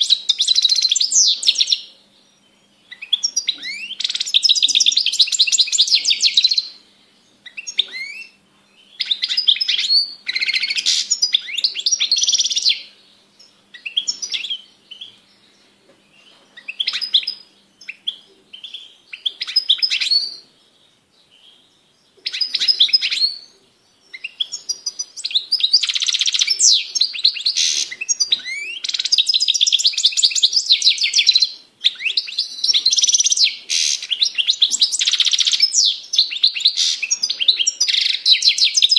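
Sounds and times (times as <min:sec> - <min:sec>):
goldfinch singing: 0:00.0 - 0:06.8, 0:07.4 - 0:15.6, 0:16.2 - 0:38.9.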